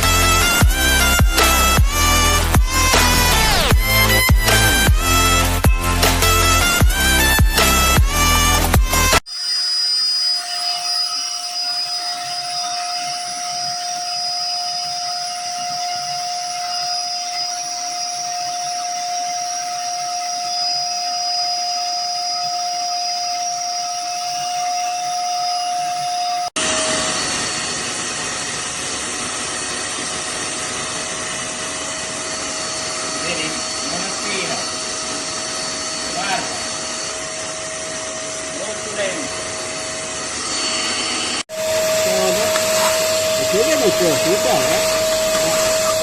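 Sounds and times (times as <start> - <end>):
wet-dry vacuum motor running: 0.0 - 46.0.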